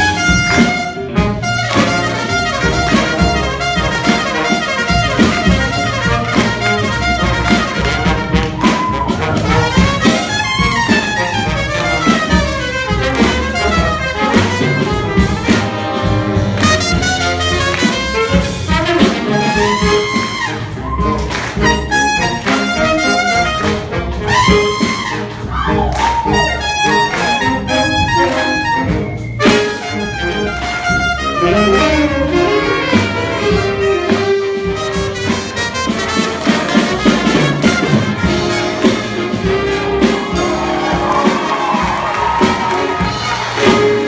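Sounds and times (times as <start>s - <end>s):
big band jazz: 0.0s - 44.0s
trumpet solo: 0.0s - 44.0s.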